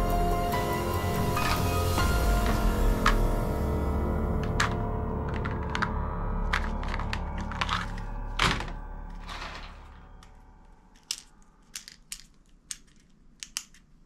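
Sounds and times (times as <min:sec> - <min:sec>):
background music: 0:00.0 - 0:12.2.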